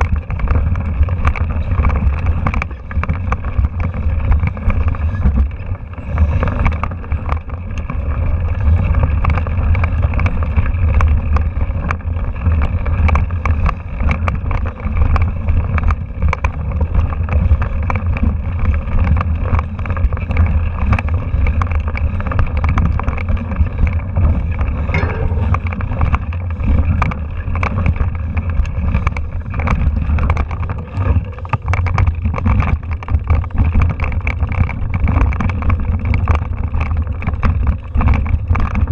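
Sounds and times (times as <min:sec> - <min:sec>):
bike rattling over rocks: 0:00.0 - 0:38.9
wind rumble on microphone: 0:00.0 - 0:38.9.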